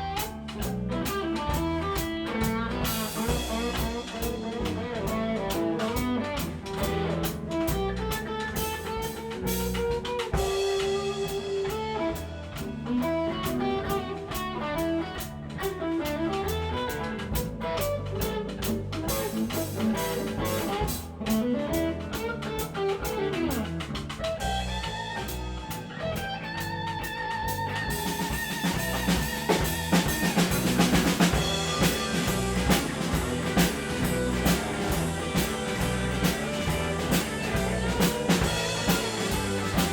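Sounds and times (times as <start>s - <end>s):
blues guitar lead: 0.0s - 39.9s
drum kit rhythm: 0.0s - 39.9s.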